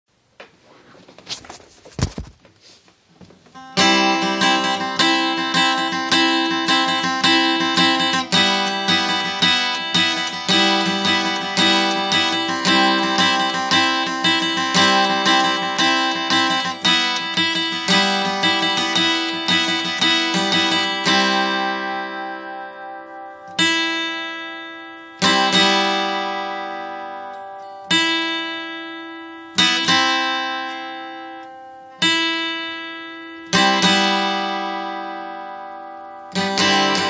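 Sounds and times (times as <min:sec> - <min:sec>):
acoustic guitar: 0:00.4 - 0:37.0.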